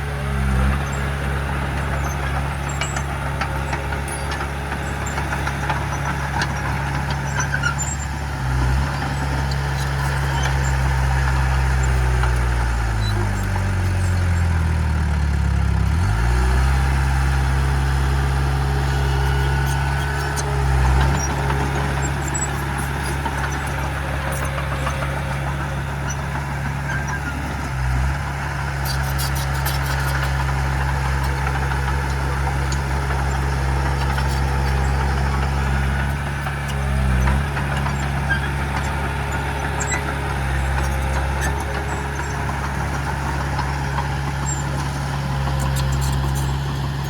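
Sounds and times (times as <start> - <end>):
heavy diesel engine running: 0.0 - 47.0.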